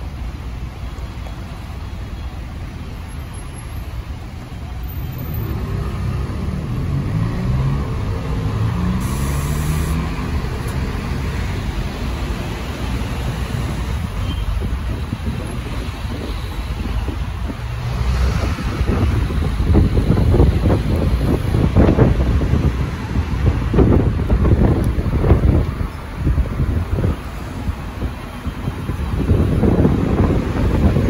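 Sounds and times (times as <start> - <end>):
vehicle engine: 0.0 - 31.0.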